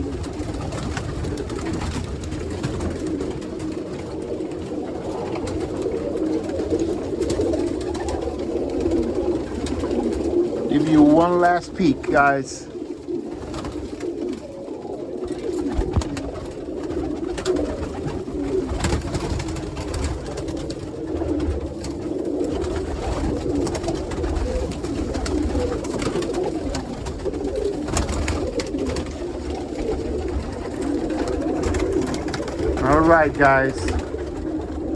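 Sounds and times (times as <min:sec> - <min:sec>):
pigeons cooing: 0:00.0 - 0:34.9.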